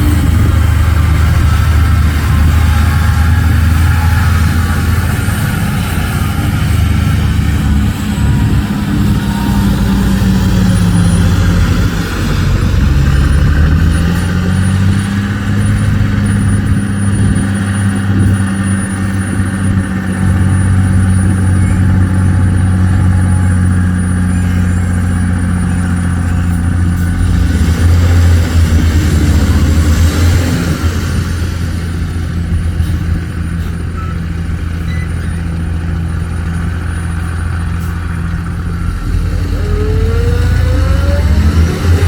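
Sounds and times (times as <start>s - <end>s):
dump truck engine running: 0.0s - 42.0s.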